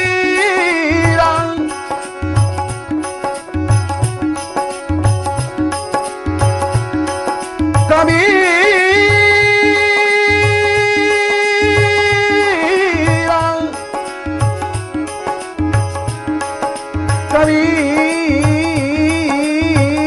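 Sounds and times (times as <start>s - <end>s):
hand drum rhythm: 0.0s - 20.0s
sustained accompanying notes: 0.0s - 20.0s.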